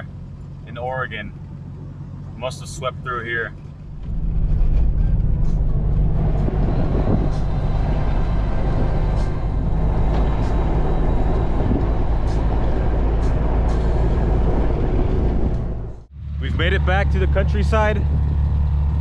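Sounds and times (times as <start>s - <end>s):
vehicle engine and tyre rumble: 0.0s - 19.0s.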